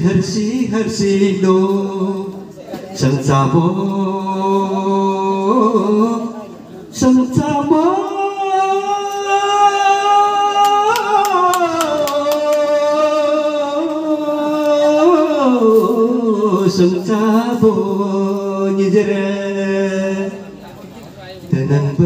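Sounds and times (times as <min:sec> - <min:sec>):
man singing into microphone: 0:00.0 - 0:20.6, 0:21.5 - 0:22.0.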